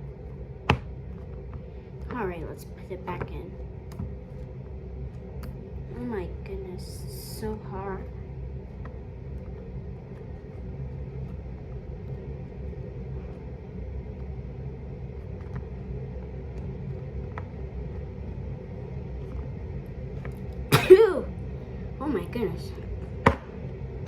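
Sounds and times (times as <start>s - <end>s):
faint hum: 0.0s - 24.0s
low rumble: 0.0s - 24.0s.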